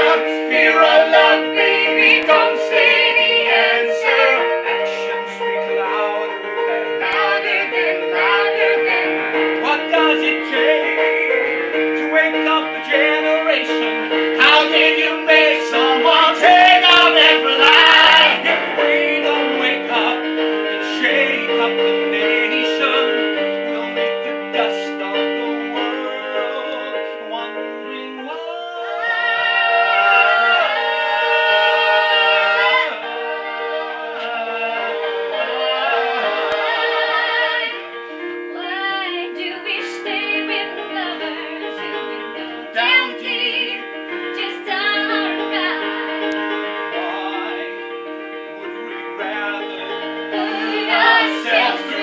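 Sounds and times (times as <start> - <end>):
trio singing musical theatre song: 0.0 - 52.0.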